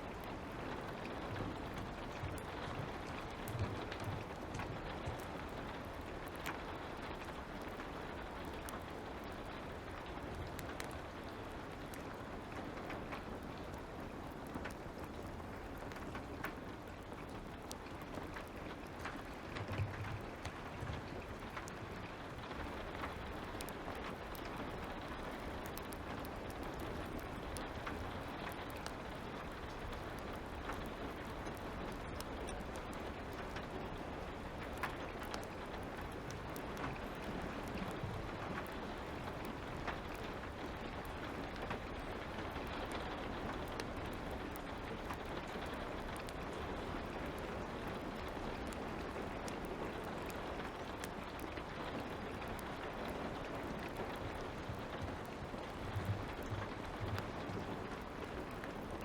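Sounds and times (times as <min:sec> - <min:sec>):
light rain: 0:00.0 - 0:59.0
wood fire crackling: 0:00.0 - 0:59.0.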